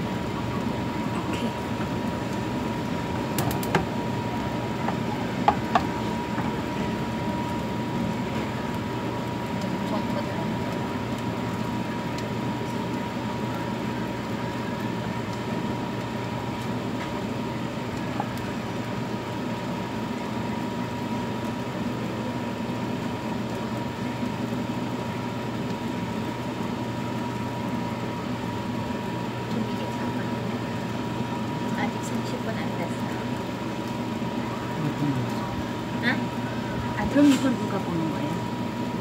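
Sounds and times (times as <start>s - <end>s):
low hum and hiss: 0.0s - 39.0s
pancakes frying in oil: 0.0s - 39.0s.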